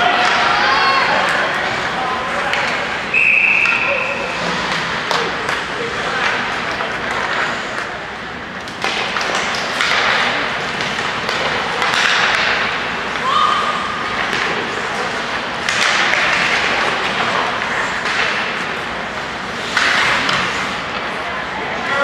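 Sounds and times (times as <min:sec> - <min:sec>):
distant spectators' voices: 0:00.0 - 0:22.0
hockey sticks and puck clacking: 0:00.0 - 0:22.0
skates scraping ice: 0:00.0 - 0:22.0.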